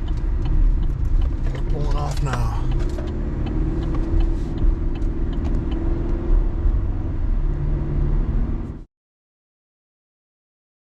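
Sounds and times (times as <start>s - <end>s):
vehicle engine and road rumble: 0.0s - 8.9s.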